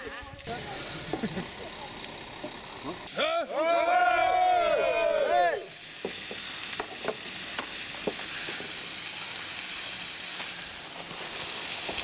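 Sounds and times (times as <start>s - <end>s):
steady hiss: 0.4s - 12.0s.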